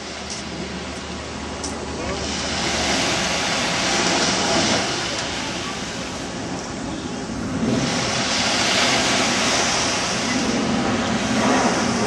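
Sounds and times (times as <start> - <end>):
sea water rushing: 0.0 - 12.0
wind rushing: 2.2 - 12.0.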